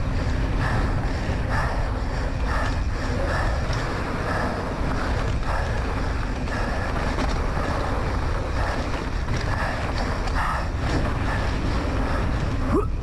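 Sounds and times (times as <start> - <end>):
rider heavy breathing: 0.0 - 13.0
wind rushing over microphone: 0.0 - 13.0.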